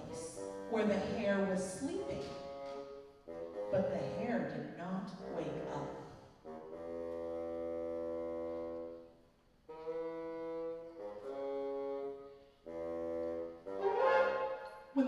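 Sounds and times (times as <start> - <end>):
wind and brass ensemble chords: 0.0 - 15.0.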